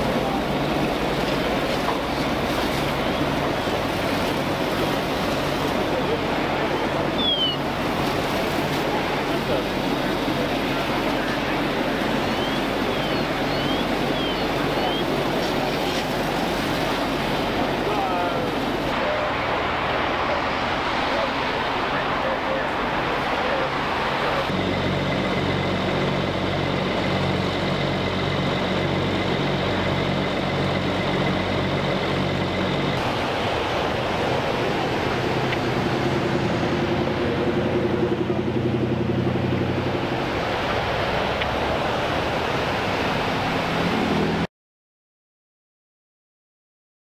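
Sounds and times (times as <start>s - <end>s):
vehicle engines idling: 0.0s - 44.4s
passing traffic: 0.0s - 44.5s.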